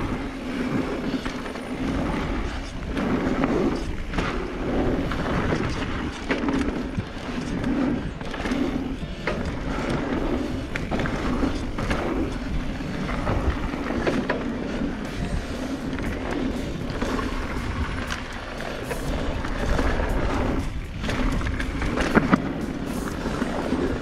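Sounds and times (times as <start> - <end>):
bike clicking and rattling: 0.0 - 24.0
tyre noise on dirt: 0.0 - 24.0.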